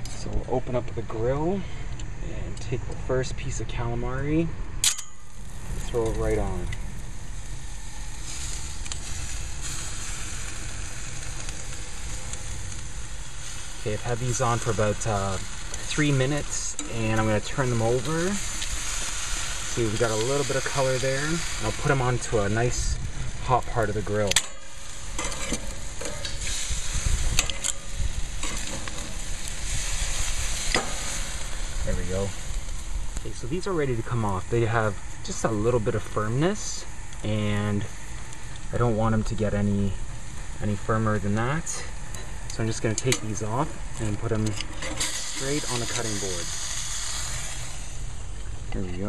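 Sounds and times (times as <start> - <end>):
squid sizzling on a grill: 4.8 - 49.0.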